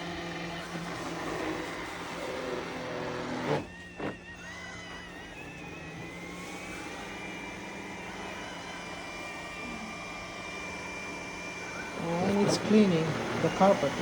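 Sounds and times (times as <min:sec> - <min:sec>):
robot vacuum motor whine: 0:00.0 - 0:14.0.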